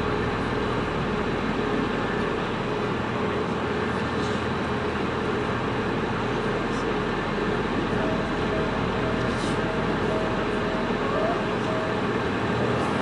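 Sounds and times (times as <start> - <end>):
electric train hum: 0.0 - 13.0
road traffic: 0.0 - 13.0.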